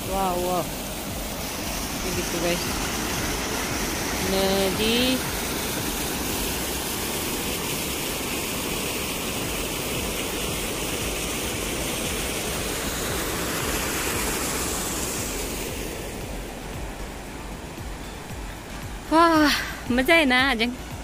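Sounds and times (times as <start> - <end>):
stream water rushing over stones: 0.0 - 21.0.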